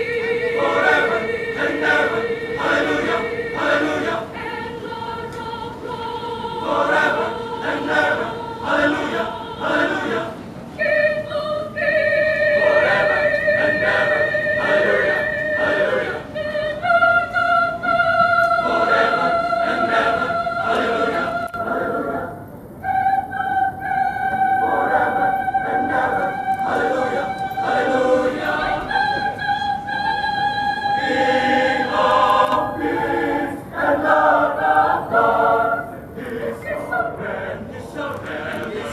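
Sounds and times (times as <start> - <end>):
choir singing long held notes: 0.0 - 38.9.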